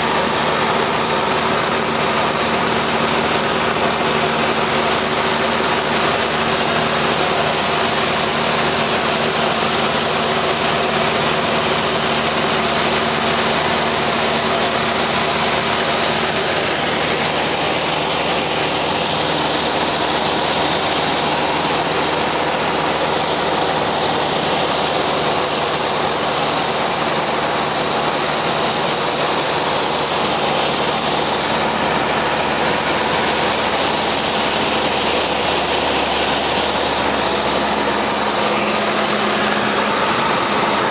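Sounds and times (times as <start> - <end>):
aircraft engine droning in cockpit: 0.0 - 40.9.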